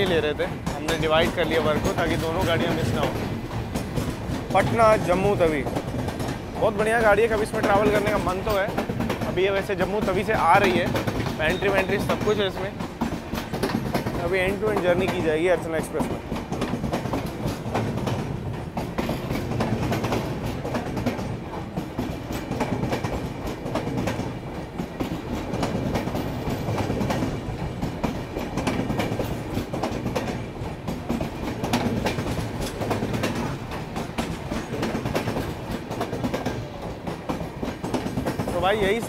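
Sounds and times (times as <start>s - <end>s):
train wheels clattering on rails: 0.0s - 39.0s.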